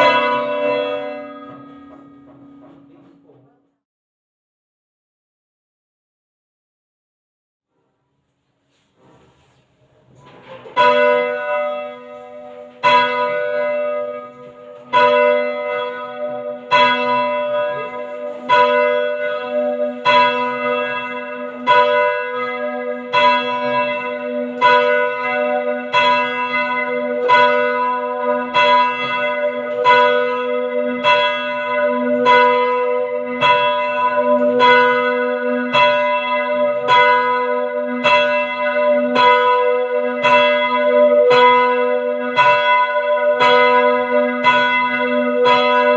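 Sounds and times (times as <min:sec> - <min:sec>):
church bell strikes: 0:00.0 - 0:03.6, 0:10.5 - 0:45.9.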